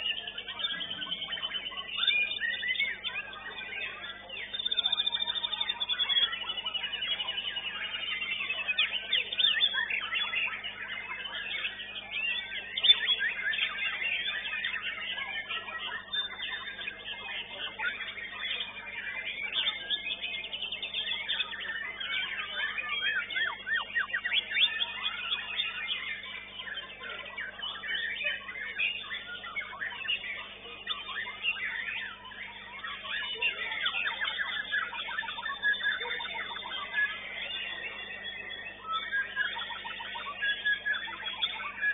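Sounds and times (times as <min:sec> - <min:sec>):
birds singing and trilling: 0:00.0 - 0:41.9.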